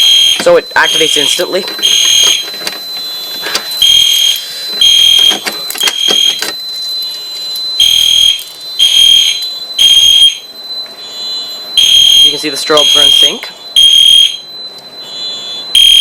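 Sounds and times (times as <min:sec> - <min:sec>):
fire alarm horn blasts: 0:00.0 - 0:16.0.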